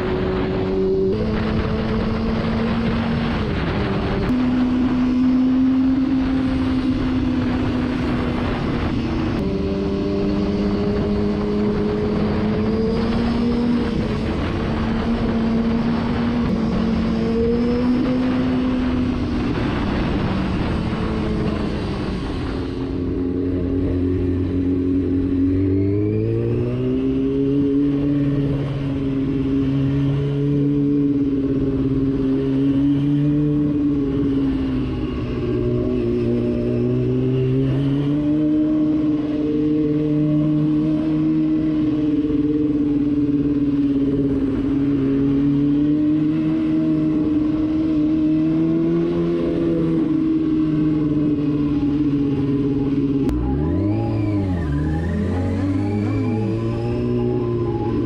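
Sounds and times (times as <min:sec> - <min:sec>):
wind rush on microphone: 0:00.0 - 0:54.5.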